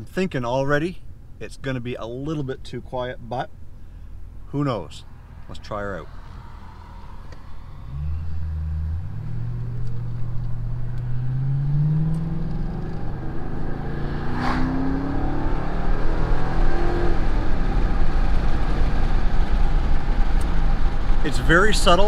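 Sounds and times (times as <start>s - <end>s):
road noise: 0.0s - 22.0s
car engine accelerating: 4.3s - 22.0s.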